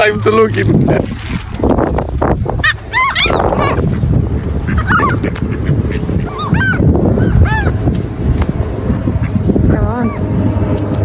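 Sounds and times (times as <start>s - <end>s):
birds calling: 1.6s - 10.9s.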